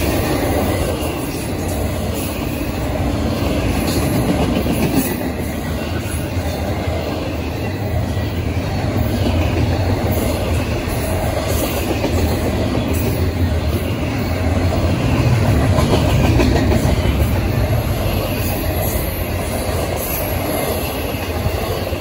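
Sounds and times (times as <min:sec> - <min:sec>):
freight train wheels rumbling on rails: 0:00.0 - 0:22.0
wheels clacking on rails: 0:00.0 - 0:22.0.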